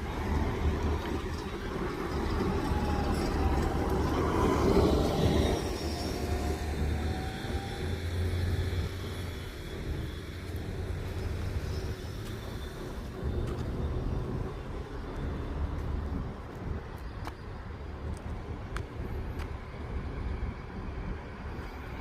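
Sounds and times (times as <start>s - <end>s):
passing vehicles engine rumble: 0.0s - 22.0s.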